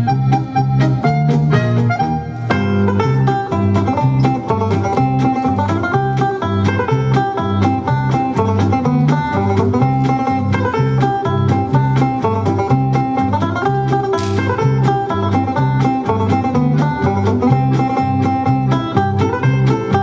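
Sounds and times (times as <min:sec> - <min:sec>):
country dance music: 0:00.0 - 0:20.0.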